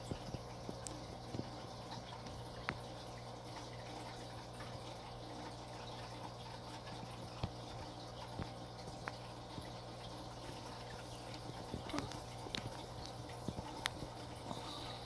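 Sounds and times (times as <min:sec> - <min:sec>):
aquarium pump humming: 0:00.0 - 0:15.0
water trickling: 0:00.0 - 0:15.0.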